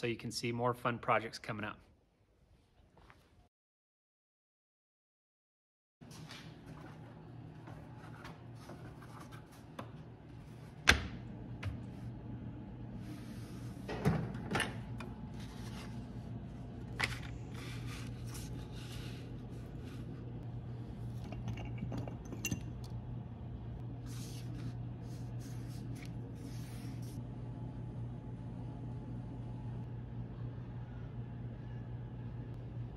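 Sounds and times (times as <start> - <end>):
steady low hum: 6.4 - 32.9.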